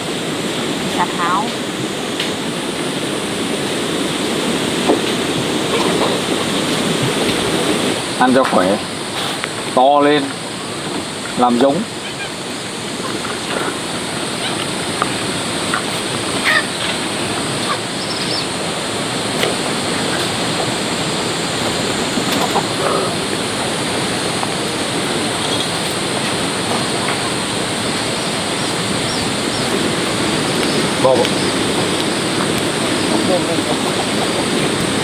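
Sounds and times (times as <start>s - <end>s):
heavy rain downpour: 0.0s - 35.0s.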